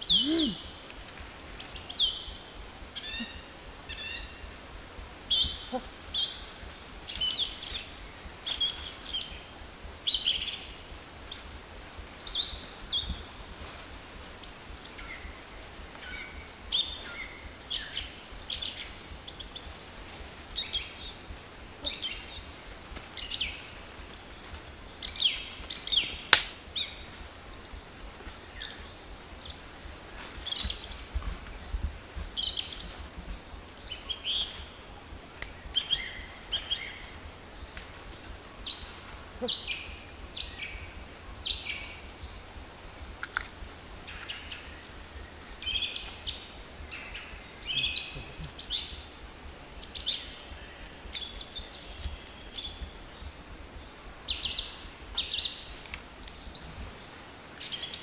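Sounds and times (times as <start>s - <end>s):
birds chirping: 0.0s - 13.6s, 20.5s - 58.0s.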